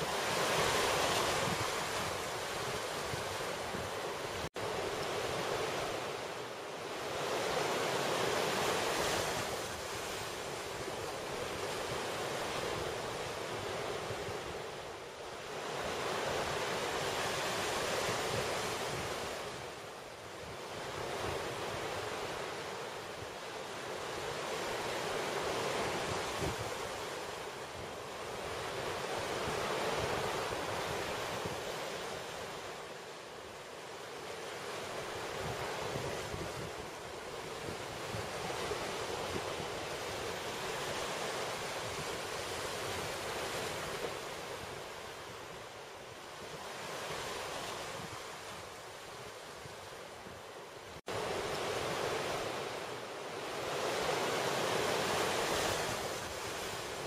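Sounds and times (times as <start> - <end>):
sea surf rushing: 0.0 - 57.0.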